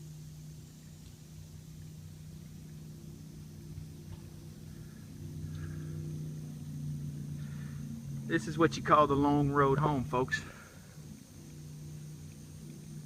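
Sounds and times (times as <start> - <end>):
distant motor humming: 0.0 - 13.0.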